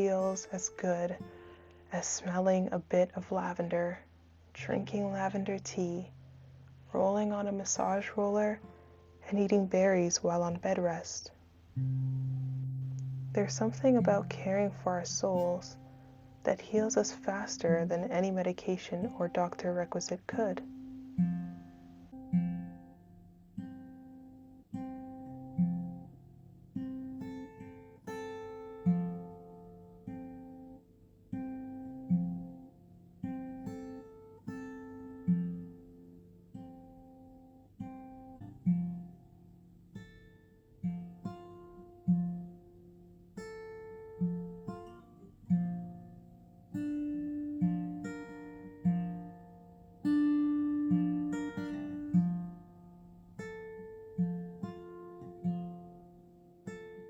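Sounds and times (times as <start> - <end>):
acoustic guitar picking: 0.0 - 4.0, 4.6 - 39.9, 40.8 - 57.0.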